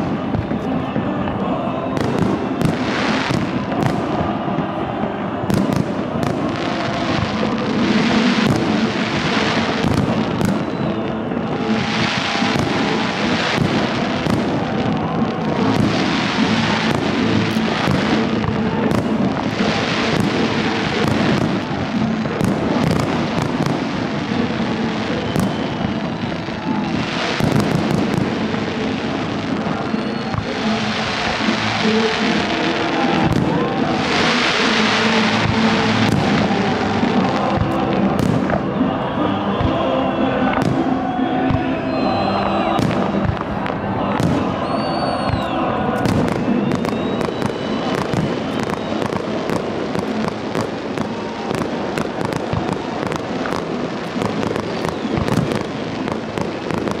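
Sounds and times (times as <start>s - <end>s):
hissing crackle of fireworks: 0.0s - 57.0s.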